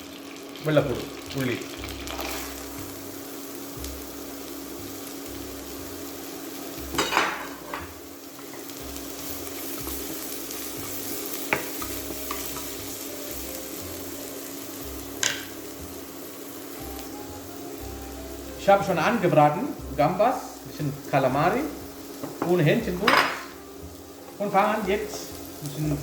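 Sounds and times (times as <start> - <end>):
onion and garlic sizzling in oil: 0.0 - 26.0.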